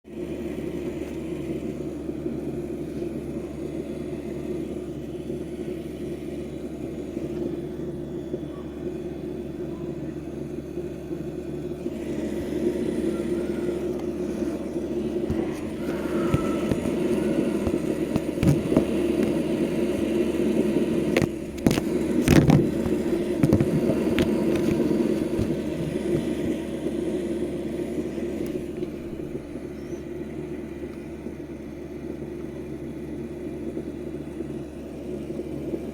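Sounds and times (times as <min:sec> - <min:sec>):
electric fuel pump buzzing: 0:00.0 - 0:35.9.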